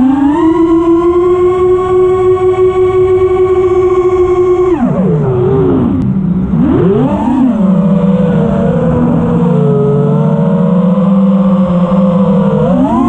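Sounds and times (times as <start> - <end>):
drone motors and propellers whining: 0.0 - 13.0.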